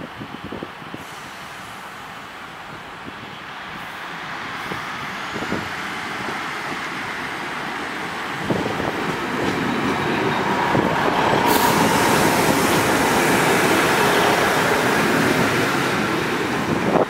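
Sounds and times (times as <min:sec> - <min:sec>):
diesel train engines running: 0:00.2 - 0:17.0
wheels rumbling on rails: 0:01.8 - 0:17.0.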